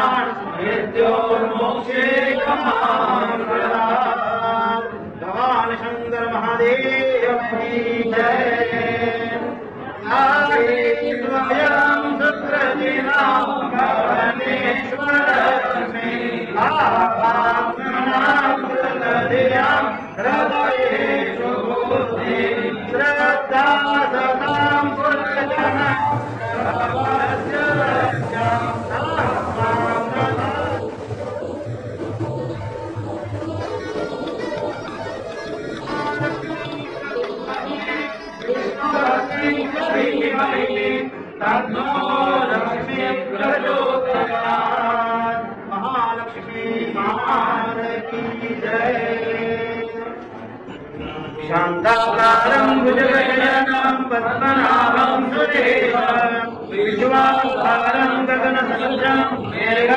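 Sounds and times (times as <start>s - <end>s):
voices chanting a sung prayer: 0.0s - 59.9s.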